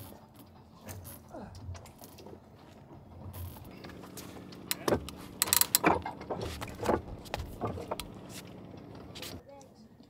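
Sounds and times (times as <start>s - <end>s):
rigging hardware clicking and clanking: 0.0s - 9.4s
steady low hum: 0.0s - 9.4s.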